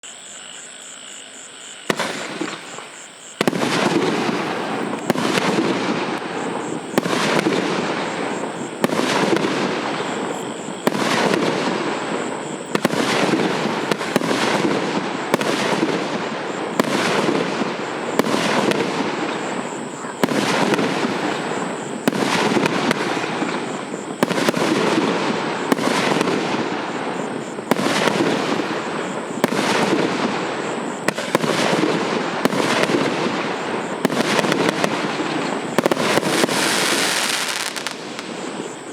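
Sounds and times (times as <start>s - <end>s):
fireworks firing shots: 1.8s - 38.9s.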